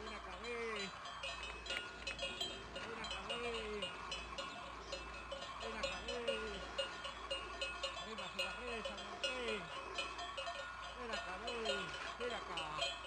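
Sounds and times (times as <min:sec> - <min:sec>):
livestock bells clanking: 0:00.0 - 0:13.0.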